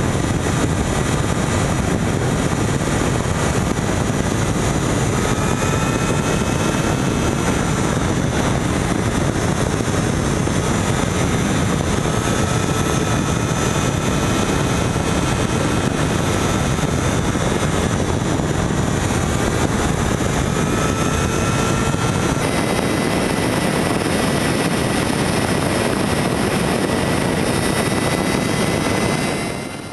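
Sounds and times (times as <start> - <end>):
wind rushing on microphone: 0.0 - 29.9.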